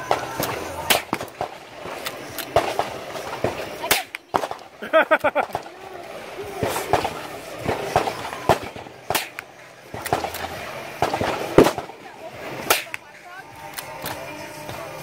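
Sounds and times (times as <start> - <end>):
gunshots: 0.0 - 14.9.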